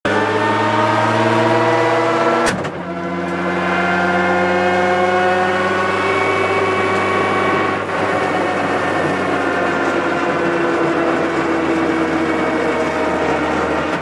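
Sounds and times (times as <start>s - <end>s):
rally car engine: 0.1s - 14.0s.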